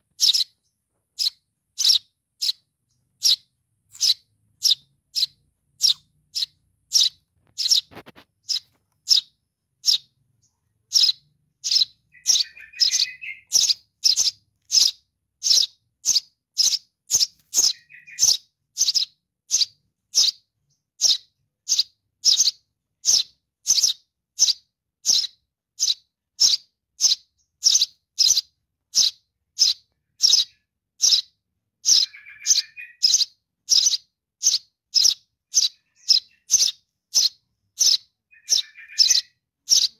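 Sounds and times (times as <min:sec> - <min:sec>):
low rough chattering bird call: 0:00.0 - 0:20.4, 0:21.0 - 0:39.9
young sparrow chirping: 0:00.0 - 0:39.9.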